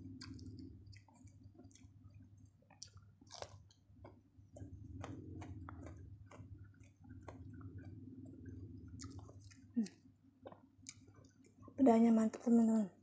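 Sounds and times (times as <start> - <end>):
close chewing with wet clicks: 0.0 - 11.7
low steady hum: 0.0 - 13.0.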